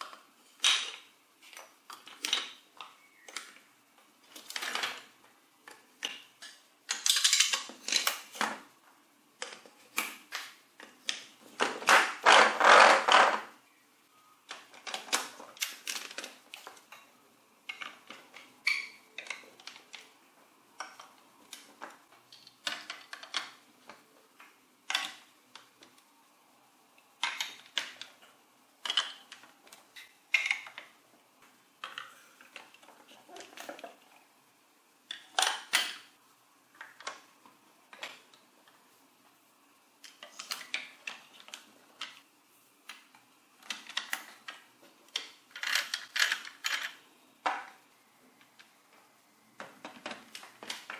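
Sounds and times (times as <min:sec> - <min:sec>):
plastic blocks clicking and clattering: 0:00.0 - 0:03.6, 0:04.2 - 0:08.8, 0:09.4 - 0:13.6, 0:14.4 - 0:20.2, 0:20.8 - 0:26.0, 0:27.1 - 0:34.2, 0:35.1 - 0:36.1, 0:36.7 - 0:38.8, 0:40.0 - 0:47.8, 0:49.5 - 0:50.9.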